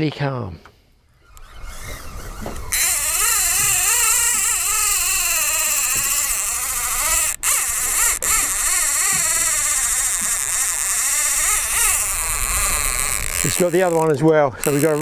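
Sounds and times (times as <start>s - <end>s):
fishing reel ratchet buzzing: 1.2s - 15.0s.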